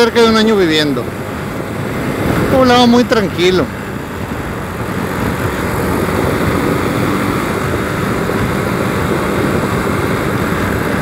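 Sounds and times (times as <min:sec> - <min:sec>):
motorcycle engine drone: 0:00.0 - 0:11.0
road noise rushing: 0:00.0 - 0:11.0.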